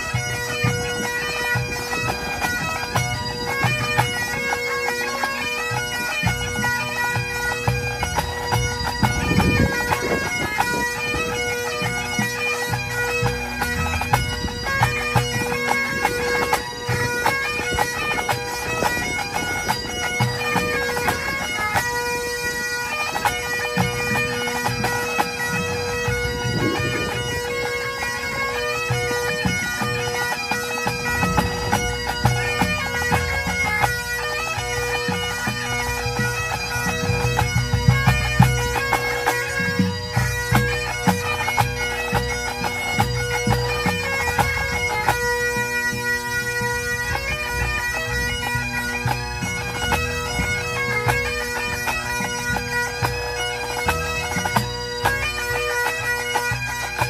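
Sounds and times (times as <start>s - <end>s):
bagpipes playing melody: 0.0s - 57.0s.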